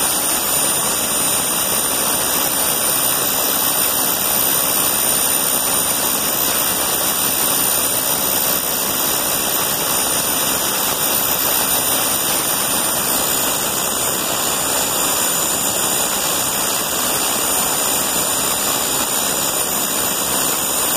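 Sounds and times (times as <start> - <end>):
high-pitched turbine whines: 0.0 - 20.9
turbine engine rushing: 0.0 - 20.9.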